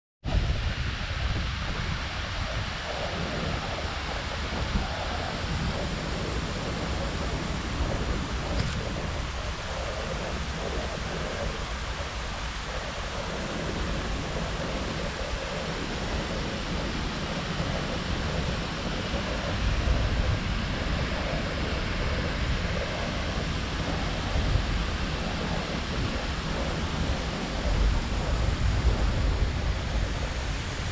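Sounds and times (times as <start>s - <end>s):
wind rumbling on microphone: 0.2s - 30.9s.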